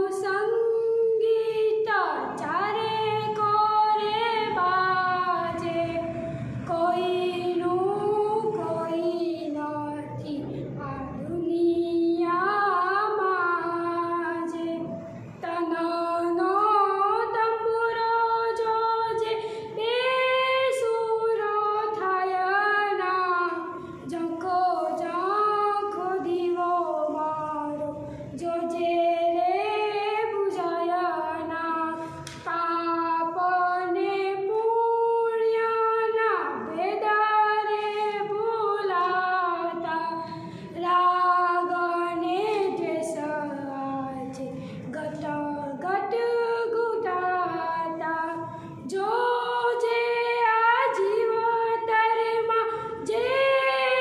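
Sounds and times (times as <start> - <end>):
girl singing unaccompanied: 0.0 - 54.0.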